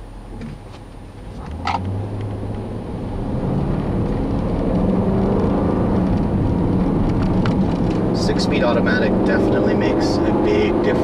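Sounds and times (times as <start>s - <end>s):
car engine accelerating hard: 0.2s - 11.0s.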